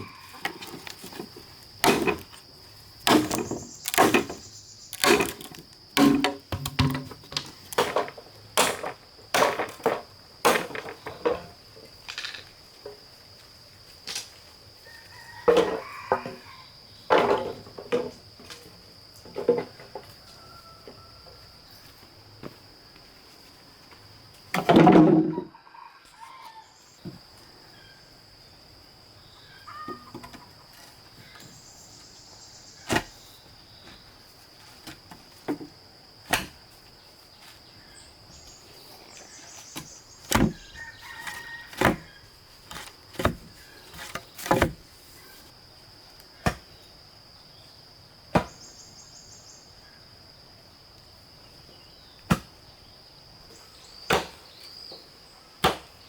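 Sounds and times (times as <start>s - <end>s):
high insect trill: 0.0s - 24.5s, 25.4s - 56.0s.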